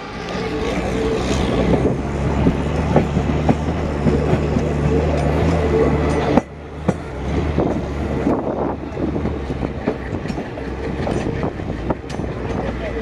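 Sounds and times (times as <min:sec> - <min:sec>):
diesel locomotive engine: 0:00.0 - 0:13.0
train wheels clicking over rail joints: 0:00.0 - 0:13.0.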